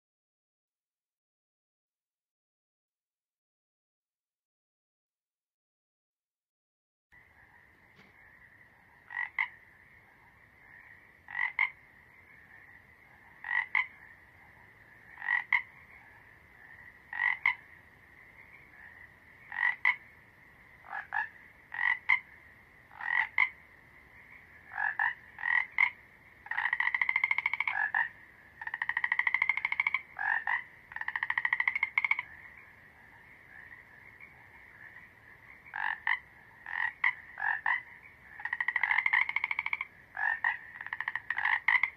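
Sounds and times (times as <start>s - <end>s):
frogs croaking: 7.1s - 41.9s
trilled frog calls: 7.2s - 41.9s.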